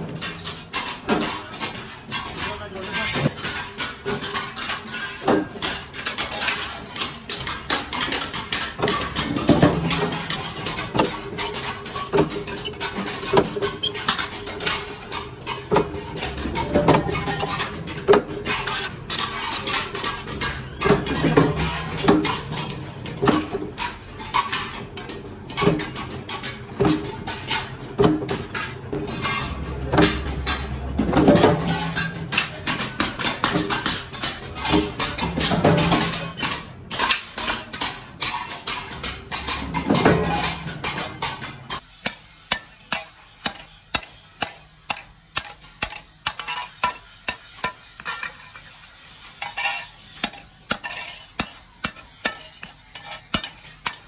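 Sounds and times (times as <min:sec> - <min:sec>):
metal clanks and taps: 0:00.0 - 0:54.0.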